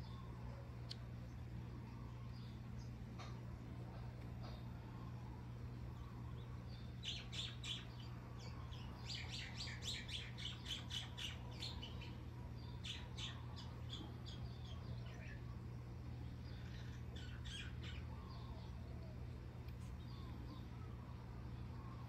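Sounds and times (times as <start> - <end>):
songbirds chirping: 0.0 - 22.0
steady low hum: 0.0 - 22.0.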